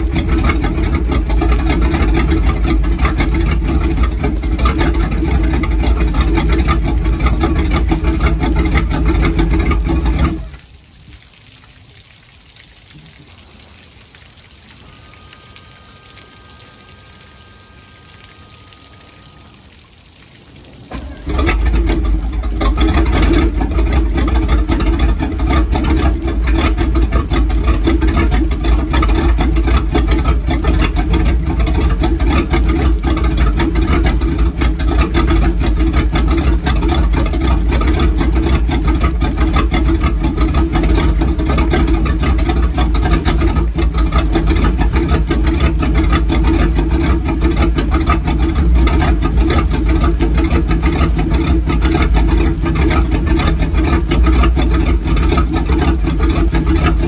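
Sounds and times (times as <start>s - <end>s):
boat engine running: 0.0s - 10.6s, 14.8s - 19.7s, 20.8s - 57.0s
hose water trickling: 0.0s - 57.0s.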